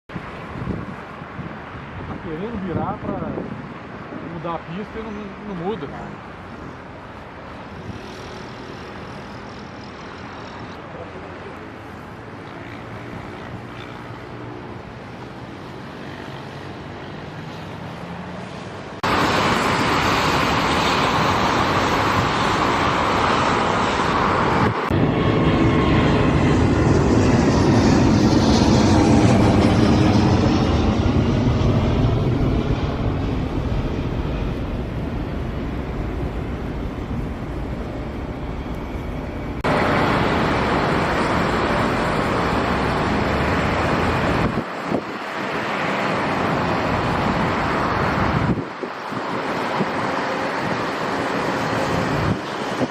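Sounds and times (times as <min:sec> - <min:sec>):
jet engines roaring: 0:00.1 - 0:52.9.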